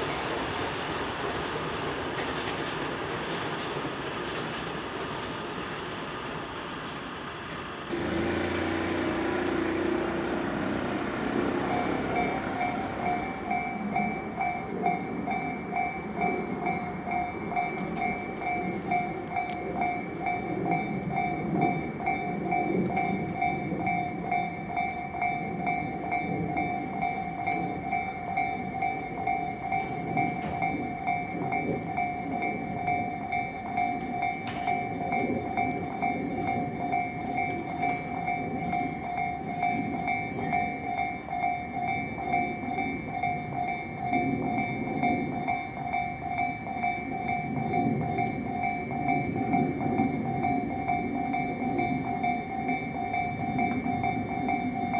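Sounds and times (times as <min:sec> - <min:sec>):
passing train rumble: 0:00.0 - 0:54.9
railroad crossing bell ringing: 0:07.9 - 0:54.9.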